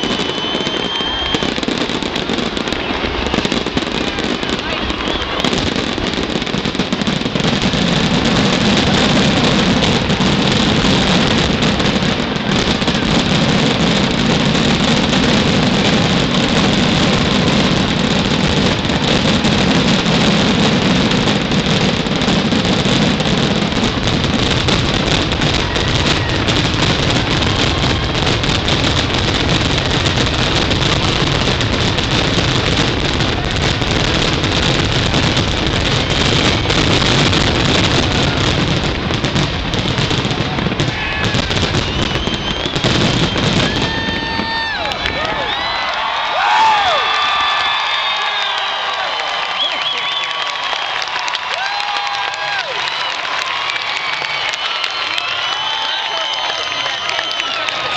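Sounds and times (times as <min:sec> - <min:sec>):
fireworks rumbling and crackling: 0:00.0 - 0:57.9.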